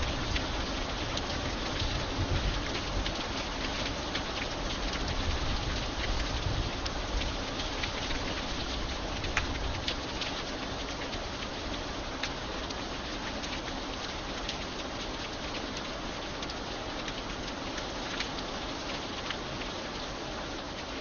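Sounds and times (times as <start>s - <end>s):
single raindrops ticking: 0.0s - 20.0s
steady rain falling: 0.0s - 21.0s.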